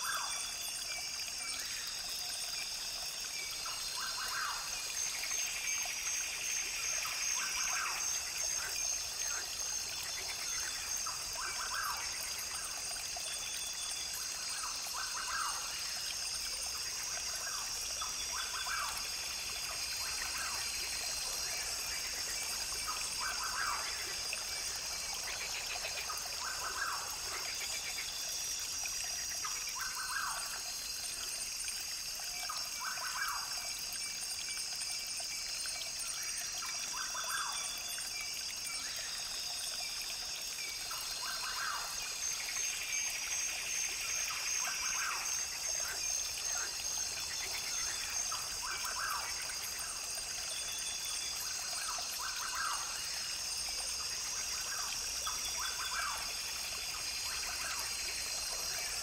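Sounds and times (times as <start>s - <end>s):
brook trickling: 0.0s - 59.0s.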